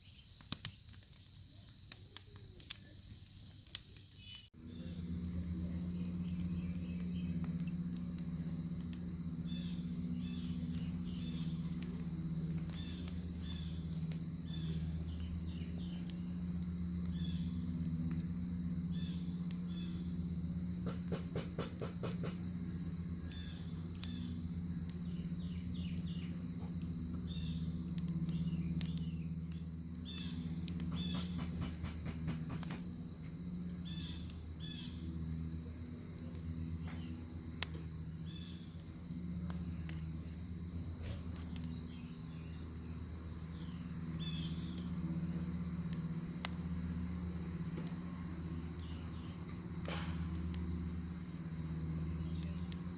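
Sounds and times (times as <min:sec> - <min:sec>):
fire pops and crackles: 0:00.0 - 0:52.9.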